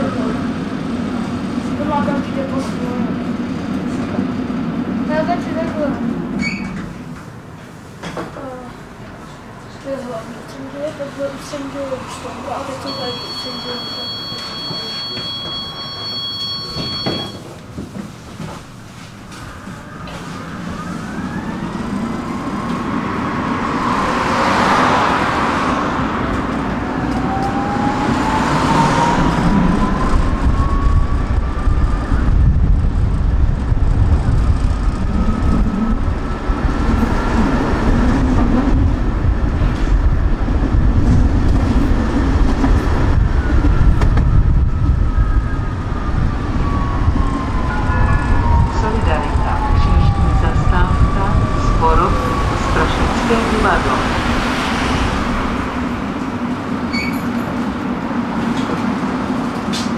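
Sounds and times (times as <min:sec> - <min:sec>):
wheels rumbling on rails: 0:00.0 - 0:59.9
tram motor whine: 0:11.0 - 0:59.9.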